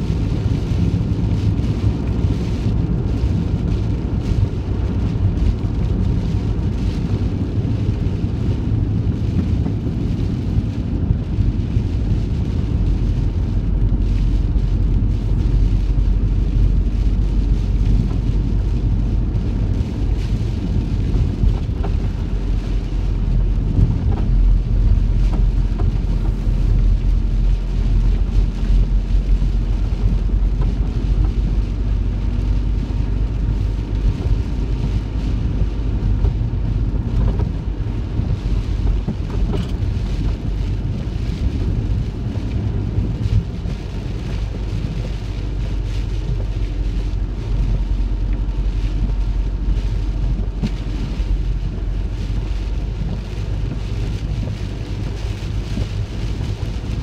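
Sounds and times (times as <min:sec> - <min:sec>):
heavy rain on vehicle roof: 0:00.0 - 0:57.0
road and engine rumble: 0:00.0 - 0:57.0.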